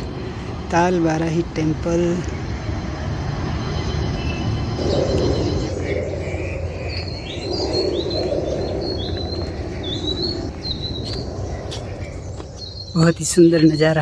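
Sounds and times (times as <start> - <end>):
bird chirping: 0.0 - 14.0
low outdoor rumble: 0.0 - 14.0.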